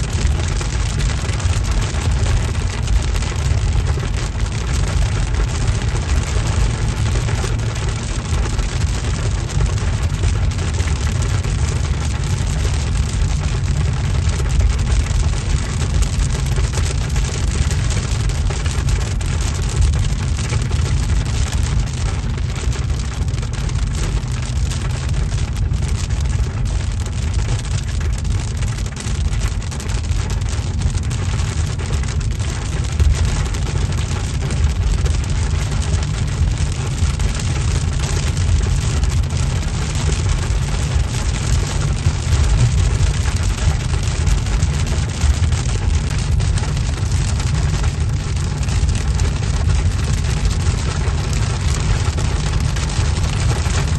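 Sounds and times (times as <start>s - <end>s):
car road rumble: 0.0s - 53.9s
rain hitting car and road: 0.0s - 53.9s.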